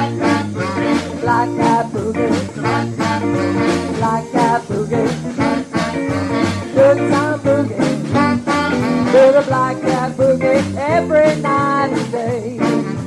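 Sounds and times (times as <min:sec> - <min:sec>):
live band playing boogie: 0:00.0 - 0:13.0.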